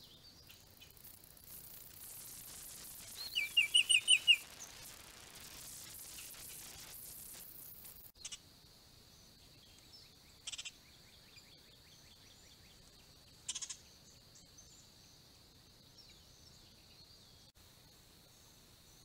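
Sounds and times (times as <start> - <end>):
faint chirps: 0.0 - 19.0
high-pitched background hiss: 0.0 - 19.0.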